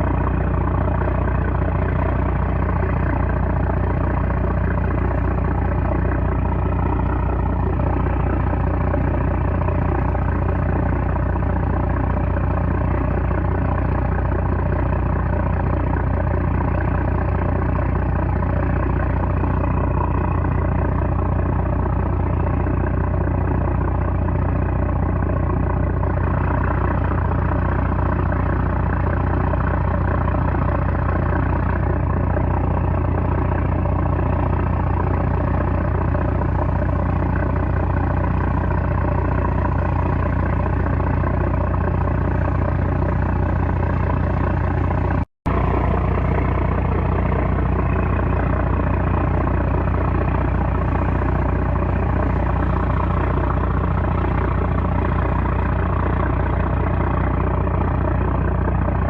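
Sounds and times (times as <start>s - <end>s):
boat diesel engine droning: 0.0s - 59.0s.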